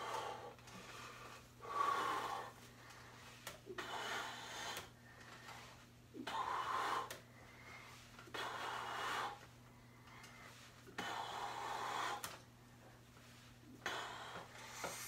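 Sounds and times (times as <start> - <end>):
man breathing forcefully: 0.0 - 12.4, 13.8 - 15.0
faint steady hum: 0.0 - 15.0.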